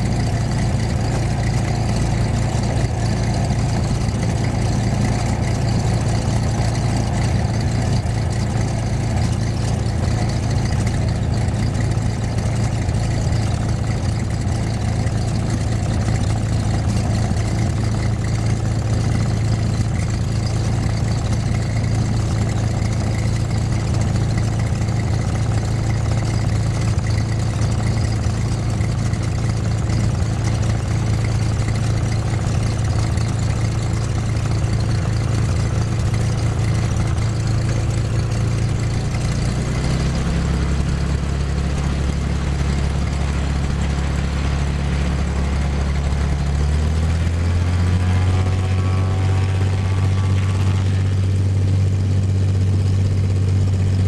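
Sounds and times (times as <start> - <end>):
aircraft engine droning: 0.0 - 54.0.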